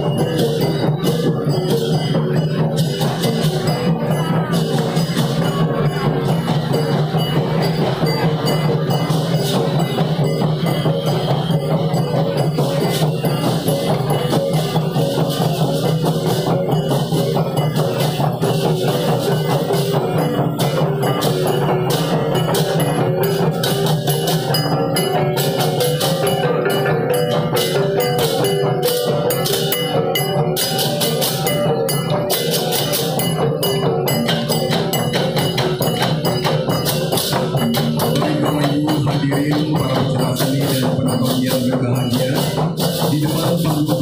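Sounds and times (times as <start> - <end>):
hand cymbals crashing: 0.0 - 43.8
drum: 0.0 - 44.0.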